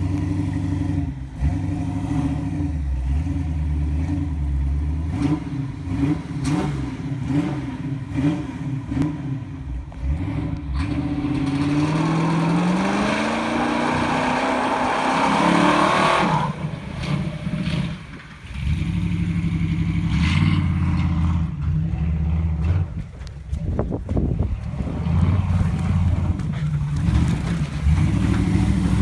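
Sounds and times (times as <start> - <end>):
truck engine revving: 0.0 - 23.2, 24.6 - 29.0
tires spinning on pavement: 0.0 - 29.0.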